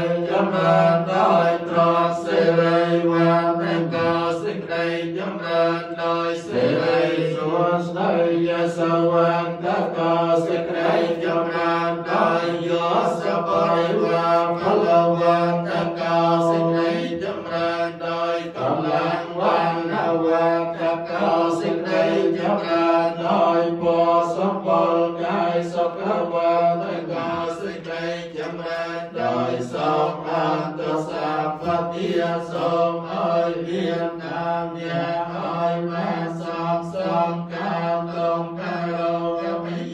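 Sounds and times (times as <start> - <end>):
monks chanting in unison: 0.0 - 39.9.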